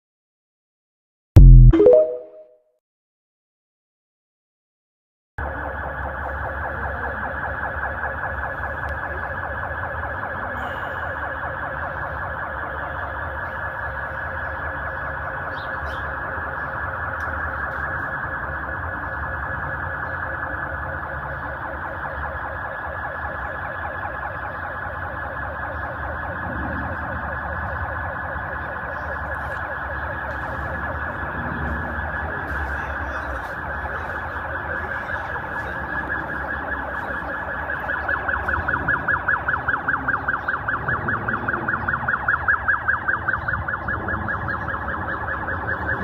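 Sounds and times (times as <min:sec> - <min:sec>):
electronic siren warbling: 0:01.4 - 0:02.4, 0:05.4 - 0:46.0.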